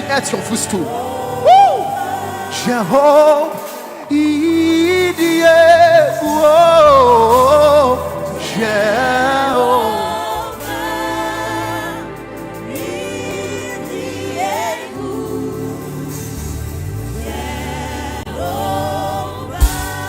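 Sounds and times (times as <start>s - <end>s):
sustained instrumental accompaniment: 0.0s - 20.0s.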